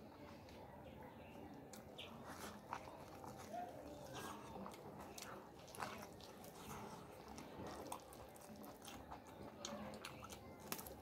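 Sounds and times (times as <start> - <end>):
chewing meat: 0.0 - 11.0.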